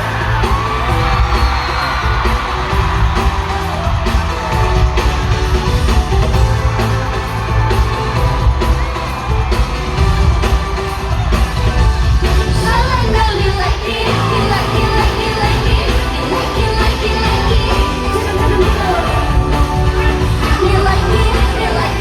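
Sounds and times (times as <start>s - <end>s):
crowd yelling and cheering: 0.0s - 22.0s
pop song with singing: 0.0s - 22.0s.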